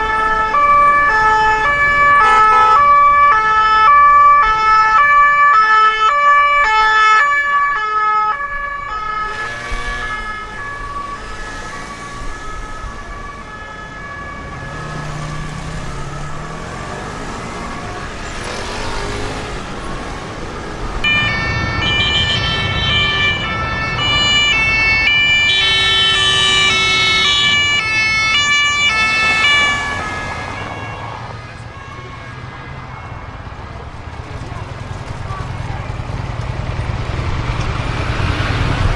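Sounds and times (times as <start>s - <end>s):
alternating siren: 0.0s - 33.7s
traffic noise: 0.0s - 38.9s
vehicle engine: 0.0s - 38.9s.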